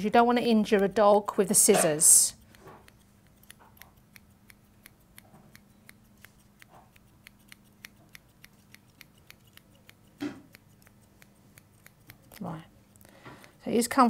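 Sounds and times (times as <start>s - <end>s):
scissors snipping: 1.8s - 14.0s.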